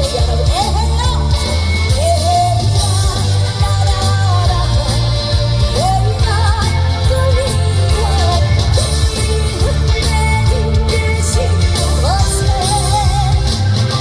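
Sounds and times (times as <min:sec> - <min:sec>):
backing track with heavy bass beat: 0:00.0 - 0:14.0
woman singing with vibrato: 0:00.0 - 0:14.0.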